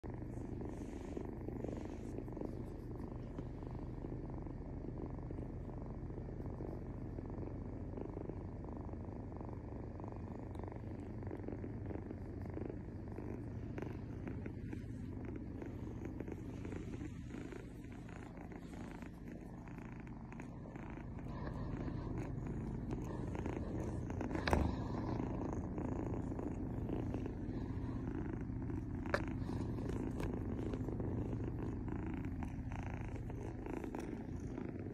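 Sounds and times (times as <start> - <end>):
kitten purring: 0.0 - 34.9.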